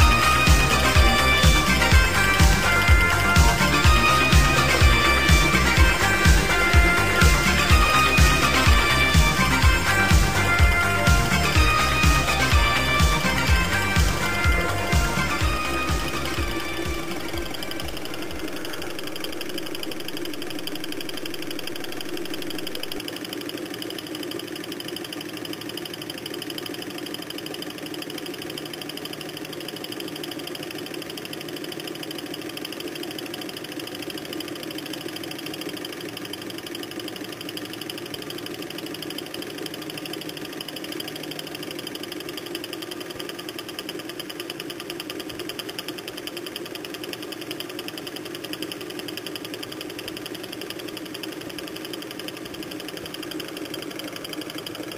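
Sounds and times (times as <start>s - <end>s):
engine fast mechanical clatter: 0.0s - 54.9s.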